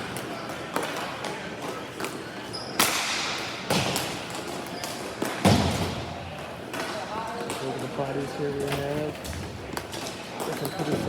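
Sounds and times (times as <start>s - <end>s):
balls hitting rink boards: 0.1s - 2.2s, 2.8s - 11.0s.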